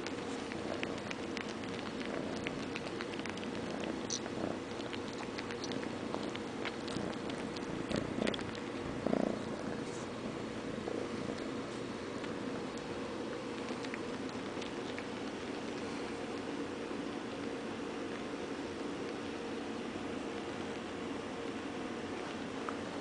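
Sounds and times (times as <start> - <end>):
kitten purring: 0.0 - 23.0.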